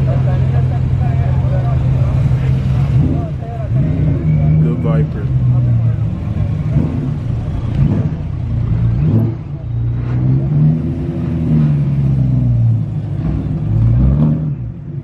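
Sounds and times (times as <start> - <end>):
car engines rumbling past: 0.0 - 15.0
engine throttle blips: 0.0 - 15.0.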